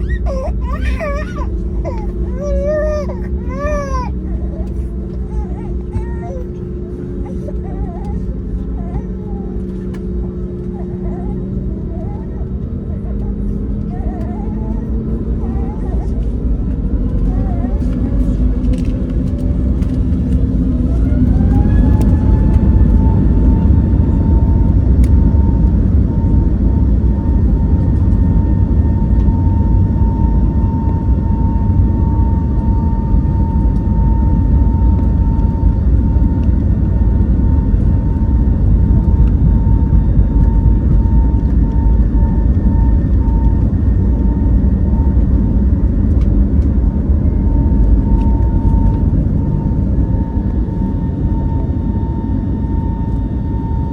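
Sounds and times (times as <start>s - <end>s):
heavy continuous rumble: 0.0s - 53.9s
jet engine whine: 0.0s - 53.9s.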